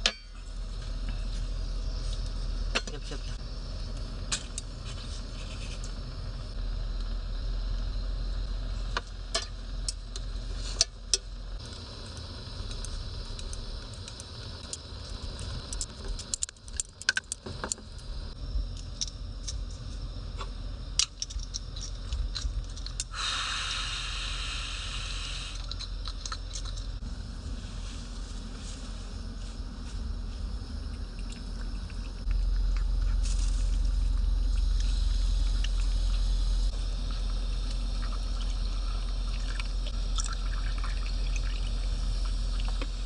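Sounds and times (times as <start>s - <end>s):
low rumble: 0.0s - 43.0s.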